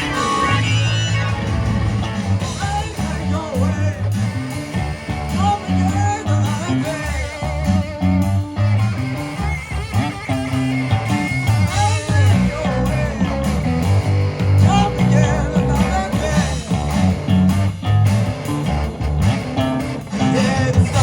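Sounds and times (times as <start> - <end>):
bass and drums: 0.0 - 21.0
electric guitar lead: 0.0 - 21.0.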